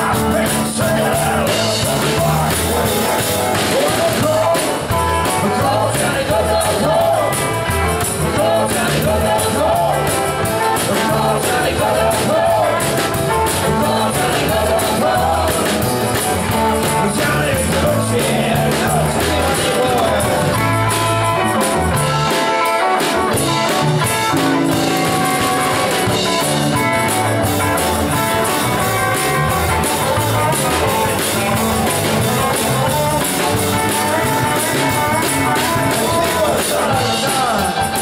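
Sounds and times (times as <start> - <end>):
electric guitars: 0.0 - 38.0
steady drum beat: 0.0 - 38.0.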